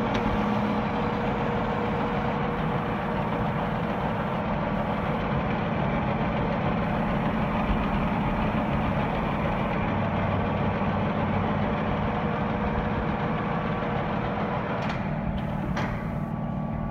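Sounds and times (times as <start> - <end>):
metal lathe running: 0.0 - 16.9.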